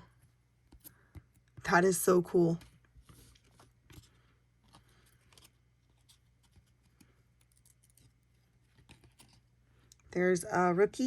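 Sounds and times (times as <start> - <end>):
low room hum: 0.0 - 11.0
trading cards rustling: 0.7 - 9.9.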